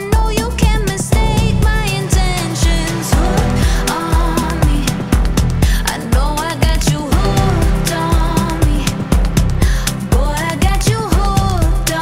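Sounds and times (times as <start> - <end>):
pop song with vocals: 0.0 - 12.0.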